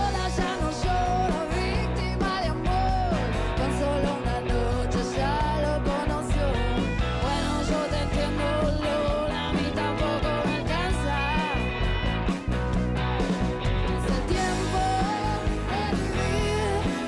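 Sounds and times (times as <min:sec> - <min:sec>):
live rock band playing: 0:00.0 - 0:17.0
wavering lead guitar melody: 0:00.0 - 0:17.0.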